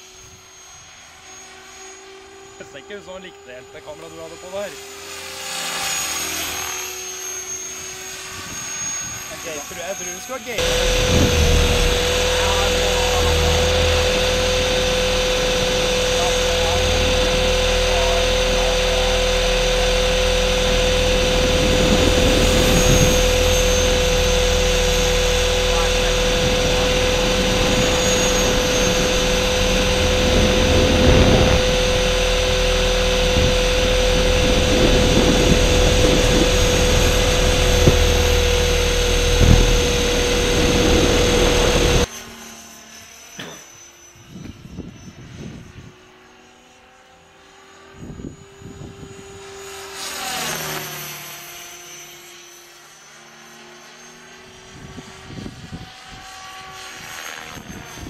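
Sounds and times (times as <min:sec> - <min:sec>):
distant rc aircraft whine: 0:00.0 - 0:58.0
quadcopter motor whine: 0:00.0 - 0:58.0
wind and vibration noise: 0:05.8 - 0:46.5, 0:47.4 - 0:53.0, 0:54.3 - 0:58.0.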